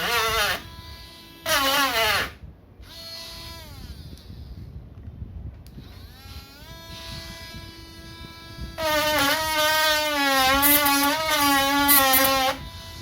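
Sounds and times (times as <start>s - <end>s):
rotary tool sanding plastic: 0.0s - 4.6s, 5.8s - 13.0s.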